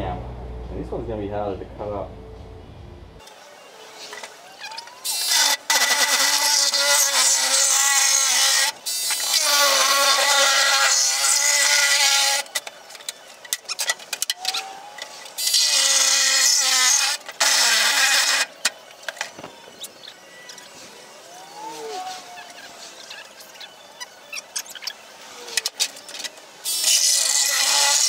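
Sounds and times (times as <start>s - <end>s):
electric saw cutting plastic: 3.2s - 28.0s.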